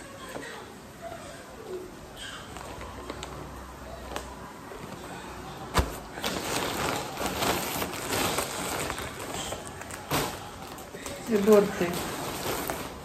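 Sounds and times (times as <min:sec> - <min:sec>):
plastic packaging crinkling: 0:02.5 - 0:13.0.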